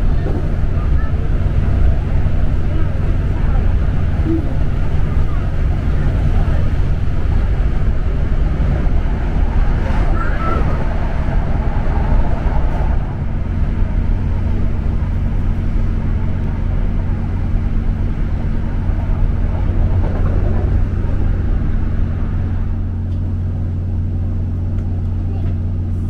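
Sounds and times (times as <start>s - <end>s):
train interior hum and rumble: 0.0s - 26.0s.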